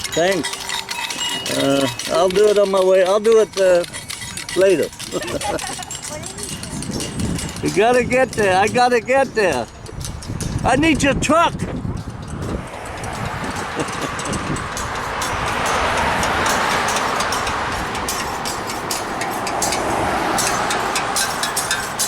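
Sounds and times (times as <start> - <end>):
rushing vehicle noise: 0.0 - 22.0.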